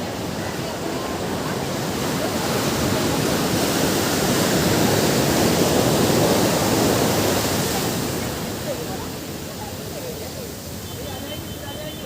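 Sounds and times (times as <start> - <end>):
ocean waves washing onto beach: 0.0 - 12.0.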